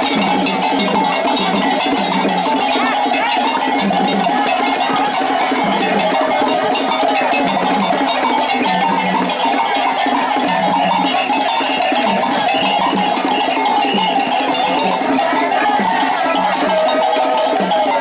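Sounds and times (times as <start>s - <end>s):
group of voices singing: 0.0s - 18.0s
iron bell struck rhythmically: 0.0s - 18.0s.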